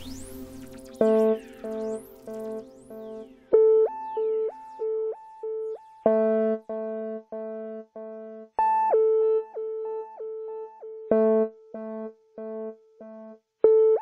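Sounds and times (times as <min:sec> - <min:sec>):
repeated electronic keyboard notes: 0:00.0 - 0:14.0.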